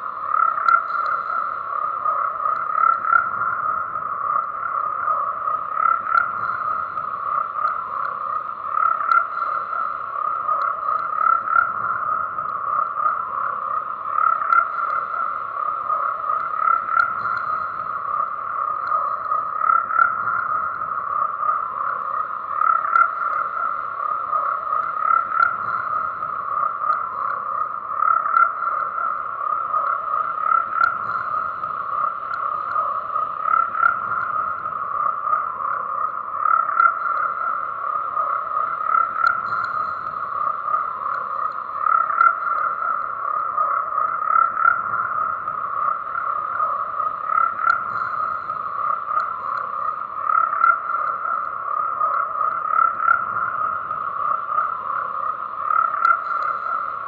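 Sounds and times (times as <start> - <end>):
chorus of frogs croaking: 0.0 - 57.0.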